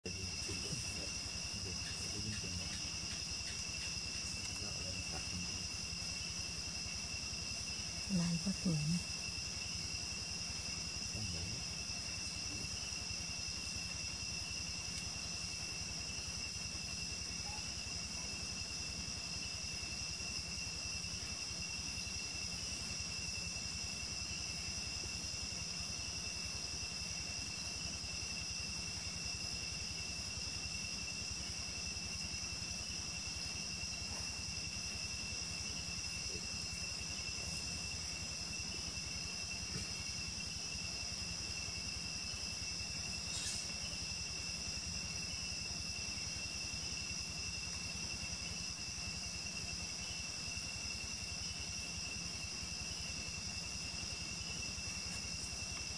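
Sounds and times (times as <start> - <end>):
night insects trilling: 0.0 - 55.9.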